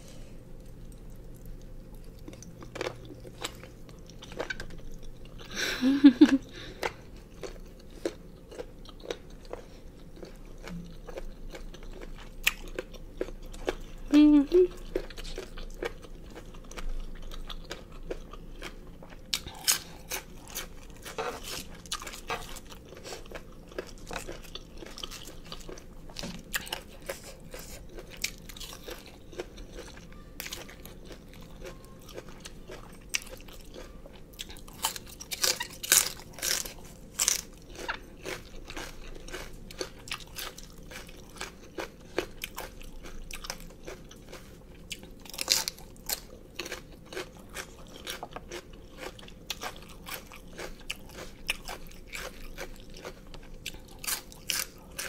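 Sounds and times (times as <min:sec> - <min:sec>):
crunchy chewing: 0:00.4 - 0:14.0, 0:14.7 - 0:55.0.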